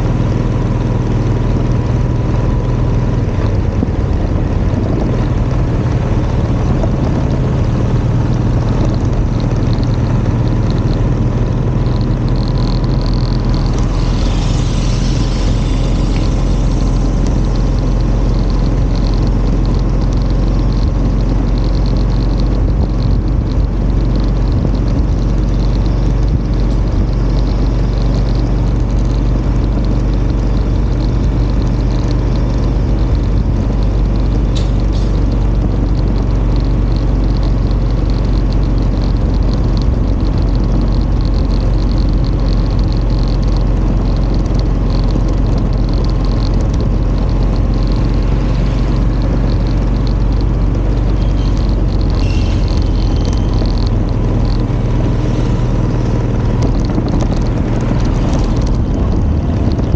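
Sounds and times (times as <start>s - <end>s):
motorcycle engine humming: 0.0s - 59.9s
road noise: 0.0s - 59.9s.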